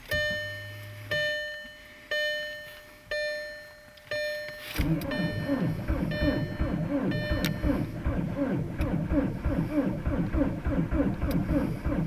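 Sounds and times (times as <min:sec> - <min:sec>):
car warning chime dinging: 0:00.0 - 0:11.4.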